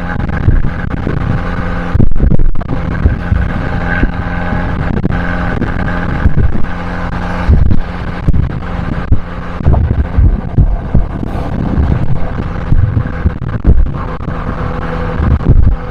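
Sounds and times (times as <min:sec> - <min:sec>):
car exhaust note: 0:00.0 - 0:15.9
short low thumps: 0:00.0 - 0:15.9.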